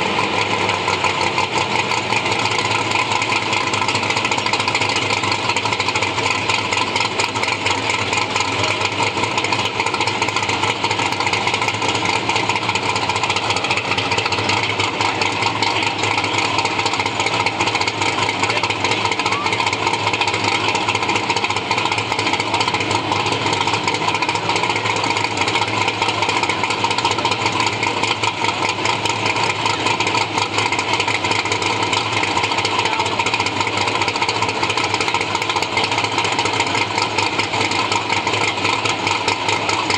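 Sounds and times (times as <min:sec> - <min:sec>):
car engine idling loudly: 0:00.0 - 0:39.9.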